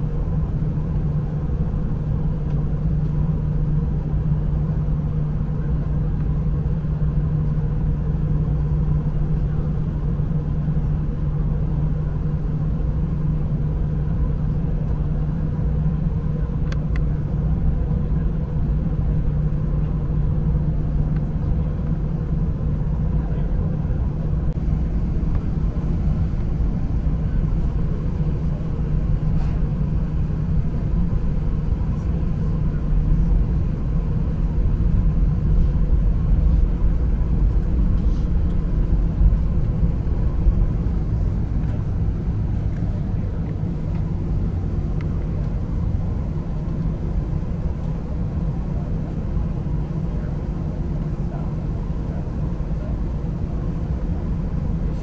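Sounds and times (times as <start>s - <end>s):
aircraft cabin rumble: 0.0s - 55.0s
jet engines humming: 0.0s - 55.0s.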